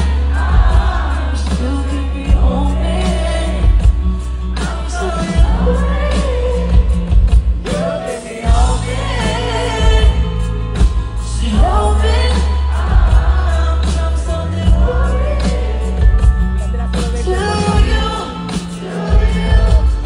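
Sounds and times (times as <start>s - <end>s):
woman singing into a microphone: 0.0s - 4.0s, 4.6s - 16.3s, 17.1s - 20.0s
pop band with heavy bass: 0.0s - 20.0s.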